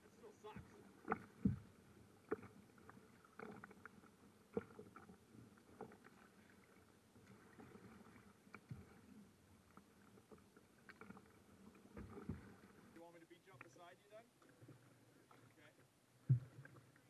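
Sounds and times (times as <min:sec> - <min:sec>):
choppy water wash: 0:00.0 - 0:17.0
small waves slapping boat hull: 0:00.0 - 0:17.0.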